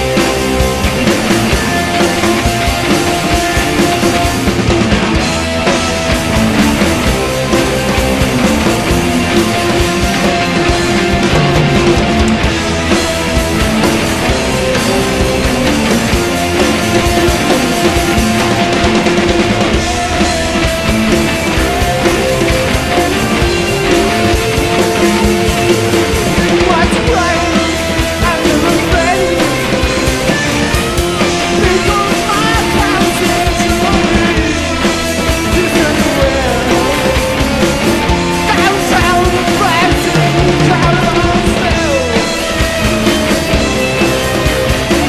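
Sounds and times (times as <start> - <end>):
bass guitar: 0.0 - 45.0
drums: 0.0 - 45.0
electric guitar: 0.0 - 45.0.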